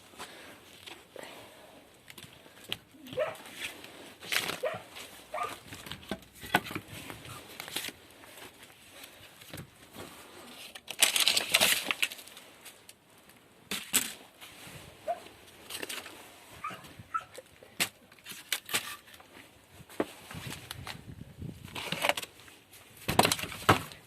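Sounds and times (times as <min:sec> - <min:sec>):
scraping and rustling: 0:02.2 - 0:17.3, 0:17.9 - 0:24.0.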